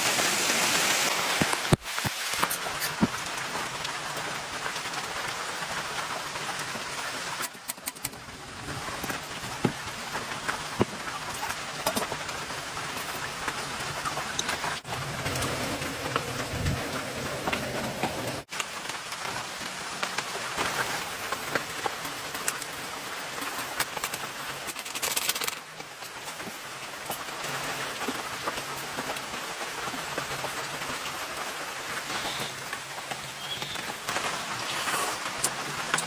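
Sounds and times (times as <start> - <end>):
heavy rain hissing: 0.0 - 7.5, 8.2 - 24.7, 25.6 - 36.0
raindrops ticking on surfaces: 0.0 - 36.0.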